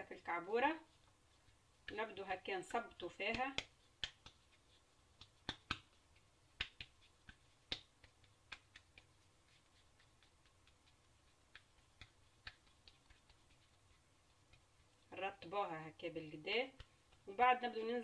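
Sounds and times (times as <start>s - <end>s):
hands patting dough: 0.0s - 18.0s.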